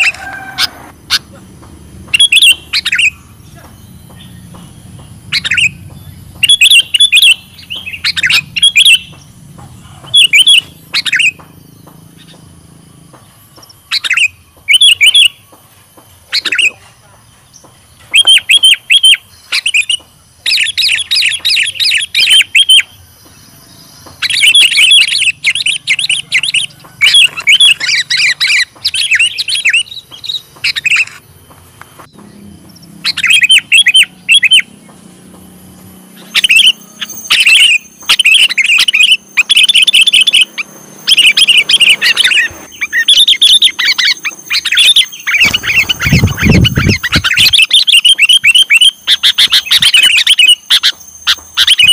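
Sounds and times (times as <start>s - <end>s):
bird chirping: 0.0s - 51.9s.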